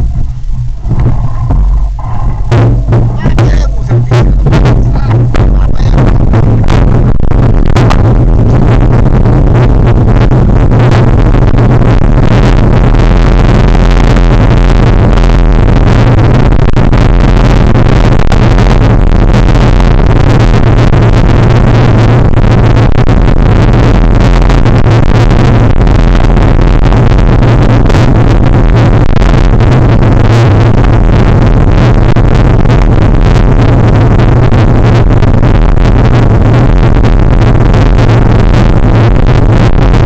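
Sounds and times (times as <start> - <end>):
vehicle engine hum: 0.0 - 40.0.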